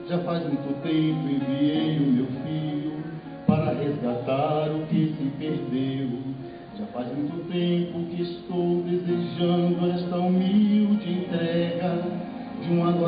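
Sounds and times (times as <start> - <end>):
instrumental accompaniment: 0.0 - 13.0
man singing hymn into microphone: 0.0 - 13.0.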